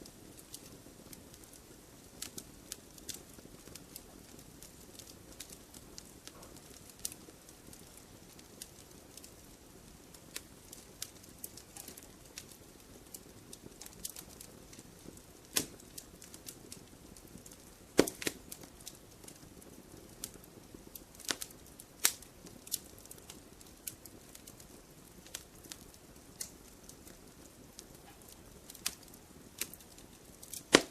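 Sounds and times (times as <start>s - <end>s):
low rumble of flames: 0.0s - 30.9s
wood fire crackling and popping: 0.0s - 30.9s.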